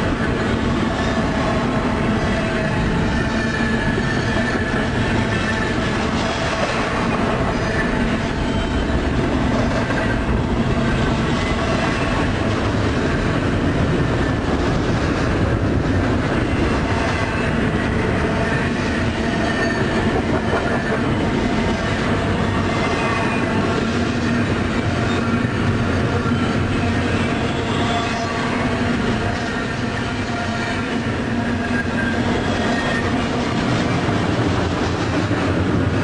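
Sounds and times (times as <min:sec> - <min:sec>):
railroad car wheels rumbling: 0:00.0 - 0:36.0.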